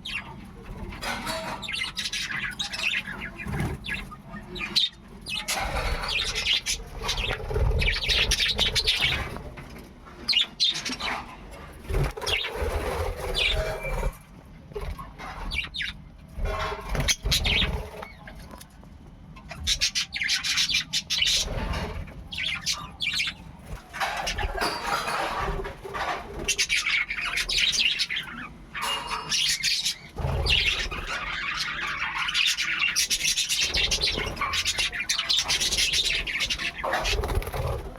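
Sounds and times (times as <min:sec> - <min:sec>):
budgerigars chirping and chattering: 0:00.0 - 0:18.7, 0:19.4 - 0:37.9.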